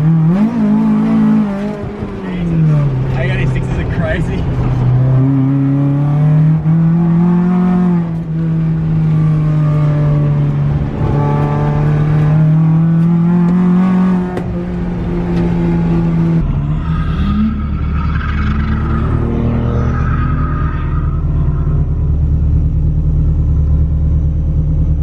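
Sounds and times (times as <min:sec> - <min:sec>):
car engine at high revs: 0:00.0 - 0:25.0.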